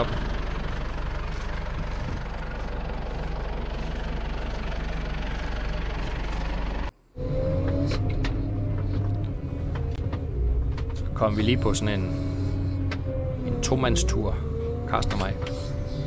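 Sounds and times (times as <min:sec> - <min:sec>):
engine with rising whine: 0:00.0 - 0:16.0
excavator diesel engine running: 0:00.0 - 0:16.0.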